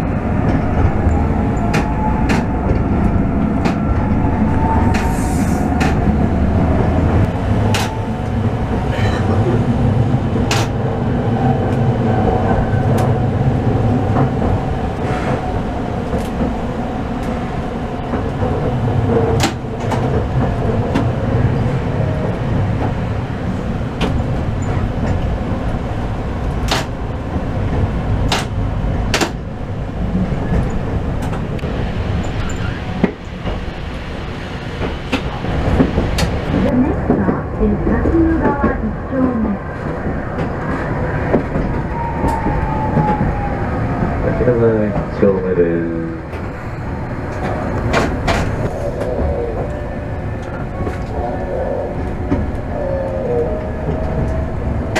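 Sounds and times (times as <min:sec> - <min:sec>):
streetcar wheels rumbling: 0:00.0 - 0:54.9.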